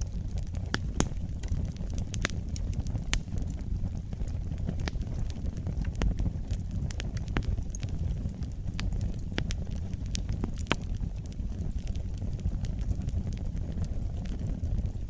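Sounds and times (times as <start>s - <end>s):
fire flames roaring: 0.0s - 15.0s
wood fire crackling and popping: 0.0s - 15.0s.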